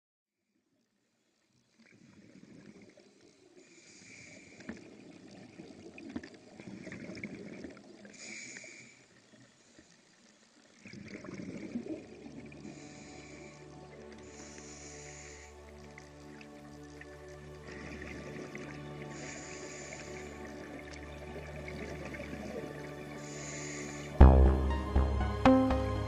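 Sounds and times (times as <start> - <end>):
water bubbling and gurgling: 1.6 - 3.8, 4.4 - 8.3, 10.2 - 25.1.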